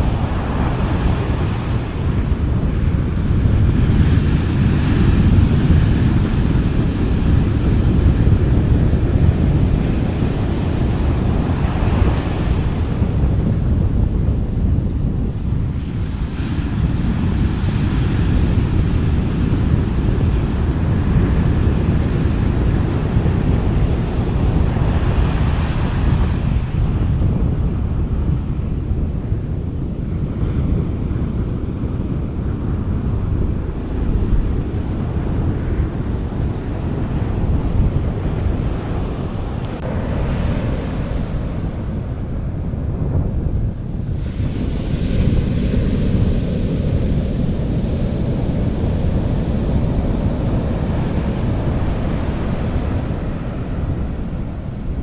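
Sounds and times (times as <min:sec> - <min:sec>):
sea waves washing onto beach: 0:00.0 - 0:55.0
wind buffeting microphone: 0:00.0 - 0:55.0.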